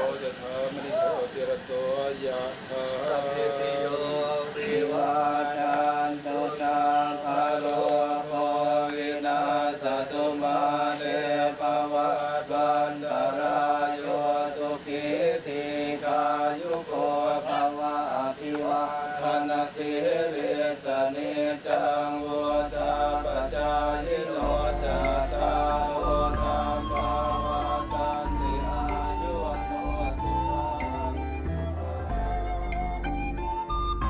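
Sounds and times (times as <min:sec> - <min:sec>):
monks chanting in unison: 0:00.0 - 0:31.7.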